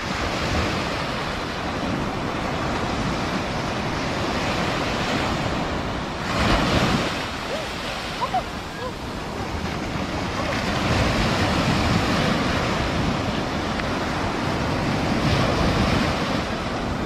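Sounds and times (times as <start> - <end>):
waves breaking on sandy beach: 0.0 - 17.0.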